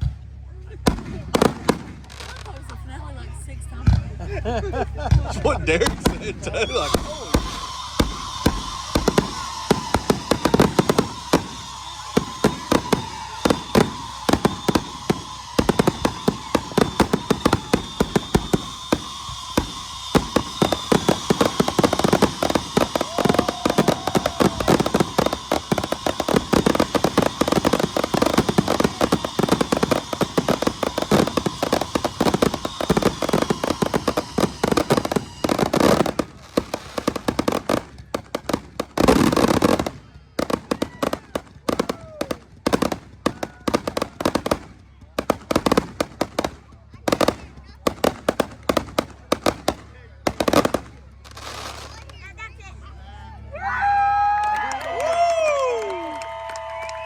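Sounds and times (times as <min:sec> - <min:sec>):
fireworks crackling and banging: 0:00.0 - 0:52.9, 0:53.8 - 0:57.0.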